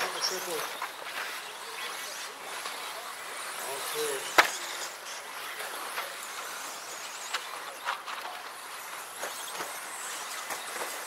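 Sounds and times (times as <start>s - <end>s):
small motor whine: 0.0s - 11.0s.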